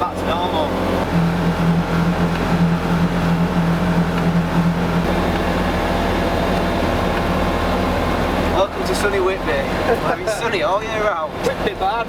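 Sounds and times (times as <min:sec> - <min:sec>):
buggy engine droning: 0:00.0 - 0:12.0.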